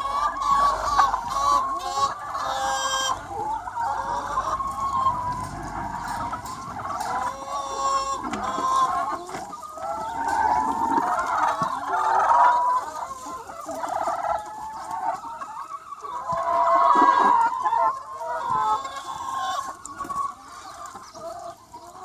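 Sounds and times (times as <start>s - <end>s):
chicken flock clucking: 0.0s - 22.0s.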